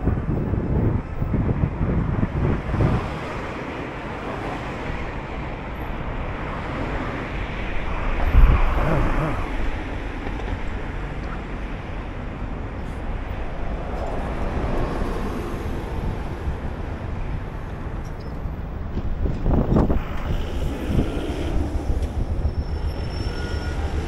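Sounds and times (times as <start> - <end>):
street traffic: 0.0 - 24.0
wind buffeting microphone: 0.0 - 24.0.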